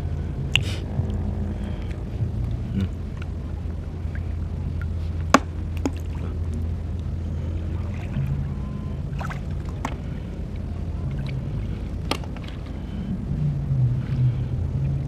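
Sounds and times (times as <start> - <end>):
low rumble: 0.0 - 15.0
seawater sloshing: 0.0 - 15.0.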